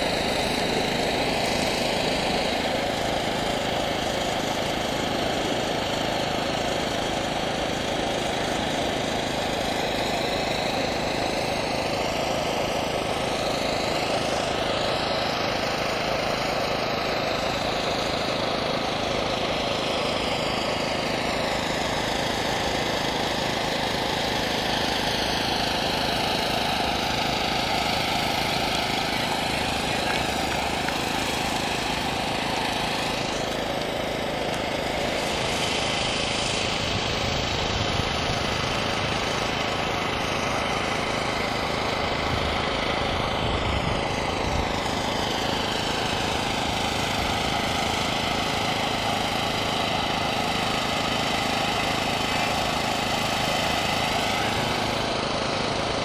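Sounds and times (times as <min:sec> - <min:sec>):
helicopter droning overhead: 0:00.0 - 0:56.0.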